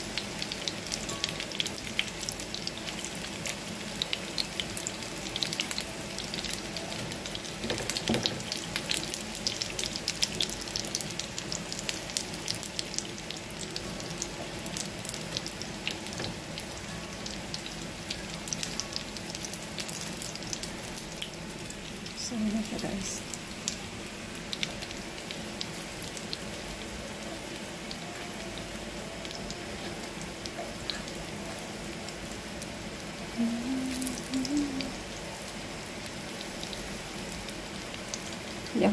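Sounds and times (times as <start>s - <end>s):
chicken frying in oil: 0.0s - 38.9s.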